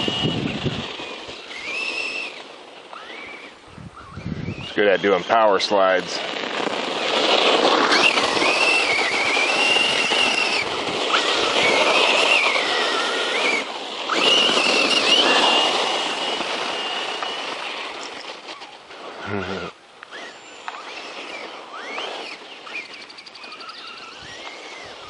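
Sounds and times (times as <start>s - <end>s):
electric motor whine: 0.0s - 25.0s
tyre noise: 0.0s - 25.0s.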